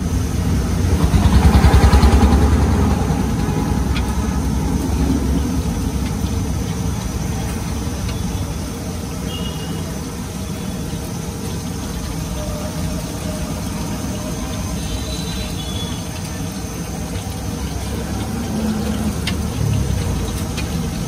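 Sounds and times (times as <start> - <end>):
dough deep-frying in oil: 0.0 - 21.0
stove burner rumble: 0.0 - 21.0.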